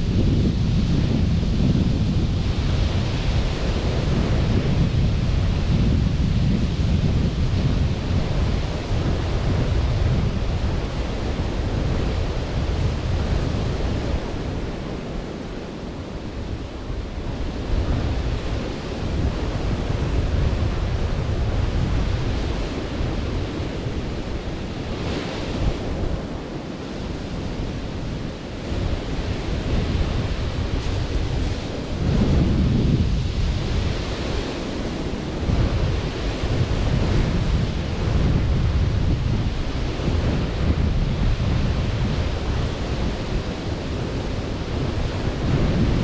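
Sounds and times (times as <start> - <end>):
sea waves washing on beach: 0.0 - 46.0
wind rumbling on microphone: 0.0 - 46.0.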